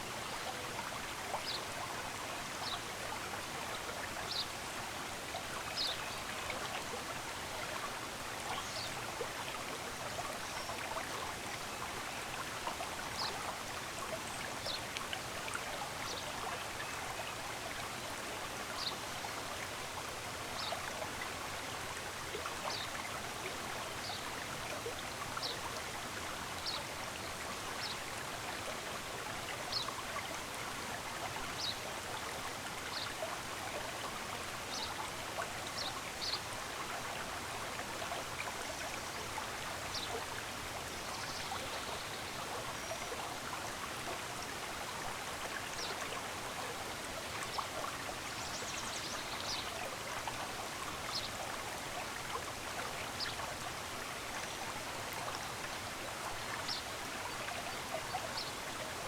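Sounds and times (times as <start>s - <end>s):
stream of running water: 0.0s - 59.0s.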